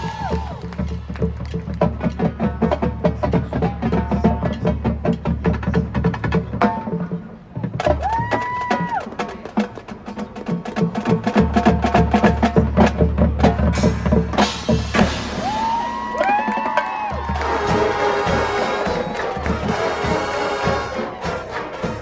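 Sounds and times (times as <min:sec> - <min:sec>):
marching band percussion: 0:00.0 - 0:22.0.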